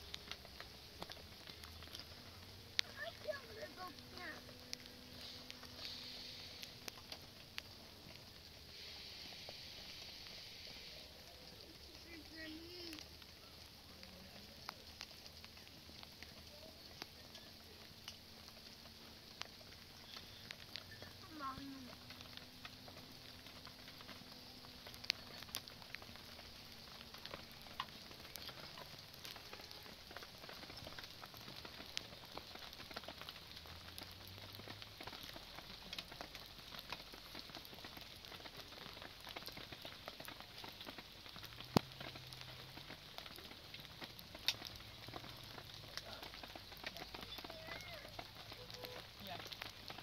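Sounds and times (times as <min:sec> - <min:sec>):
rain pattering: 0:00.0 - 0:50.0
sharp crackles and pops: 0:00.0 - 0:50.0.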